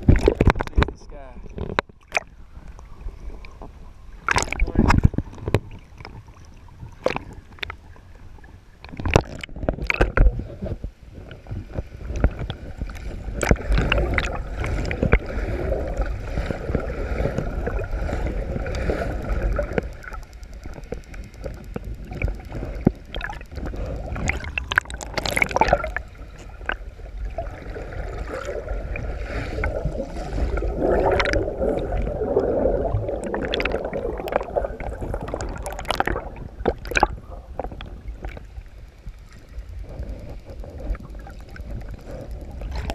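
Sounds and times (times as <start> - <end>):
water sloshing around boat: 0.0 - 42.9.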